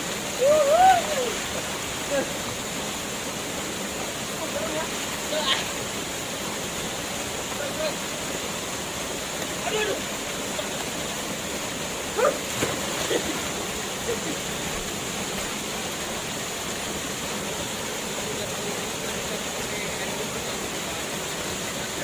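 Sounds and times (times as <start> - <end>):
forest waterfall rushing: 0.0 - 22.0.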